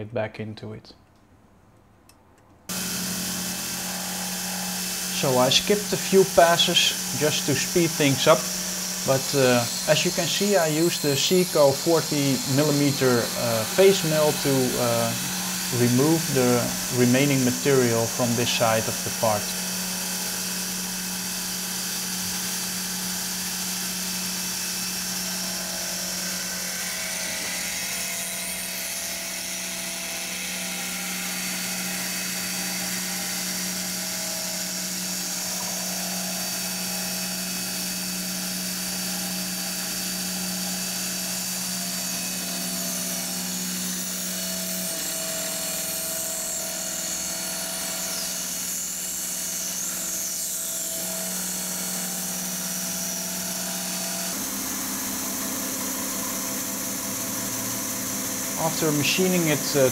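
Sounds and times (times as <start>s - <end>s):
milling machine cutting aluminum: 2.7s - 59.9s.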